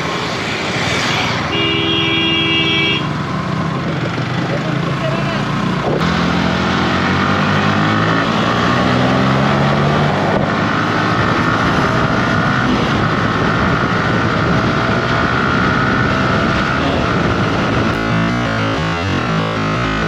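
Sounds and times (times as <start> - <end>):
motorcycle engine accelerating: 3.1 - 20.0.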